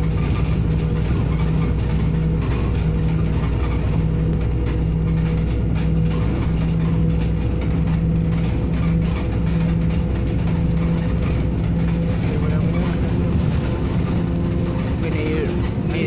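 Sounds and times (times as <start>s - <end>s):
bus engine drone: 0.0s - 16.0s
pulsing hum: 0.0s - 16.0s.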